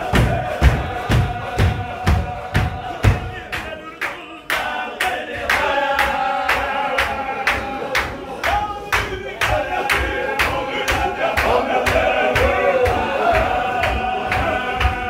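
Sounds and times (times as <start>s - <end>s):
men chanting together: 0.0s - 15.0s
stamping and clapping: 0.0s - 15.0s.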